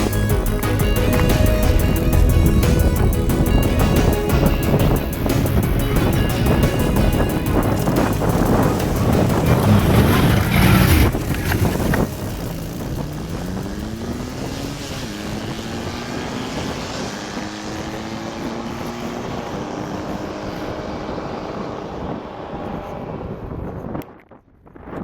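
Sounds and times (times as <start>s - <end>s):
atv engine running: 0.0s - 24.0s
wind rush on microphone: 0.0s - 25.0s.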